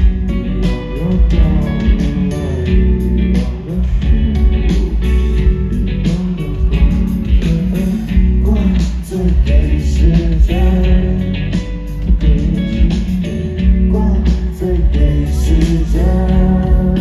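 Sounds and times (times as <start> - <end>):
live rock band playing: 0.0 - 17.0
man singing: 0.0 - 17.0.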